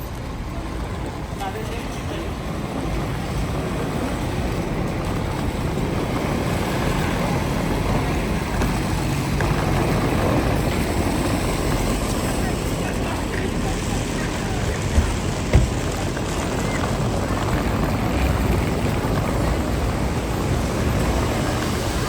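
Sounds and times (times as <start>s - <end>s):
vehicle rumble and road noise: 0.0s - 22.0s.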